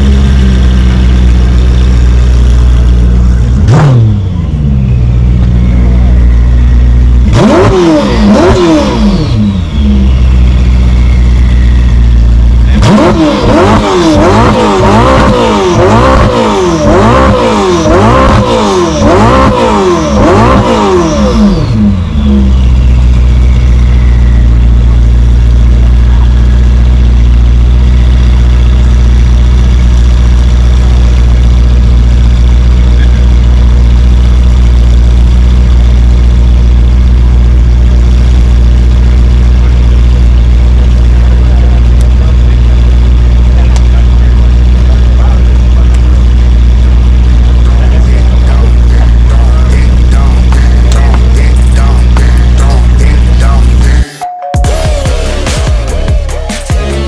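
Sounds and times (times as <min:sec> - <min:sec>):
car engine idling: 0:00.0 - 0:54.1, 0:54.7 - 0:57.0
car engine revving: 0:00.0 - 0:54.1, 0:54.7 - 0:57.0.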